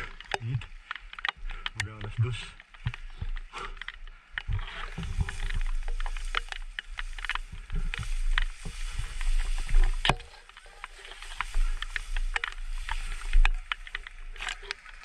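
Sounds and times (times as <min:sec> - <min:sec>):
dry grass rustling and crackling: 0:00.0 - 0:15.0.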